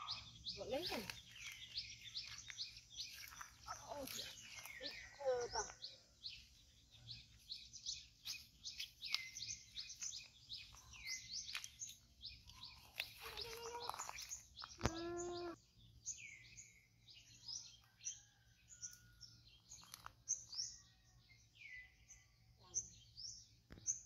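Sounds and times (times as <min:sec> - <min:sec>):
birds chirping: 0:00.0 - 0:24.0
long steady bird call: 0:00.0 - 0:24.0.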